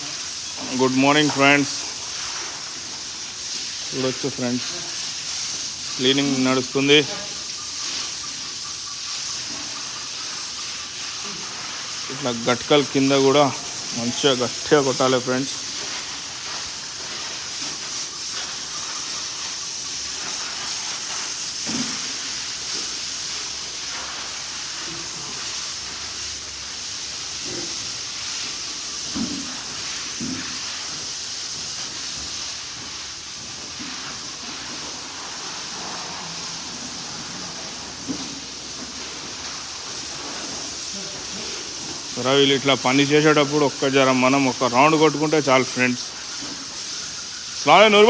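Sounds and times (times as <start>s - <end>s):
hose water jet hissing: 0.0s - 48.0s.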